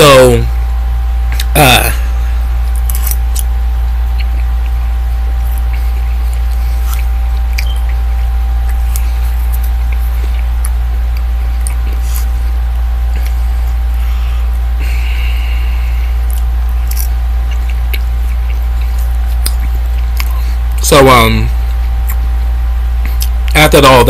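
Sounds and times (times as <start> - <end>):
low electrical hum: 0.0 - 24.0
person chewing food: 1.3 - 20.8, 21.5 - 23.5.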